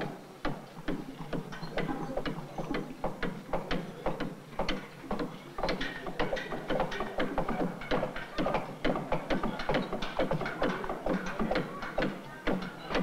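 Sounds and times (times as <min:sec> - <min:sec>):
hand tool striking wooden planks: 0:00.4 - 0:13.0.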